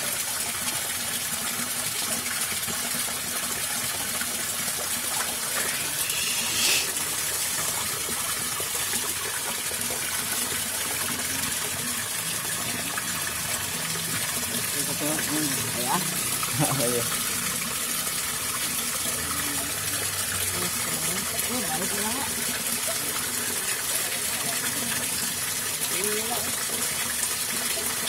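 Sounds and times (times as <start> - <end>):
water rushing through culvert: 0.0 - 28.0.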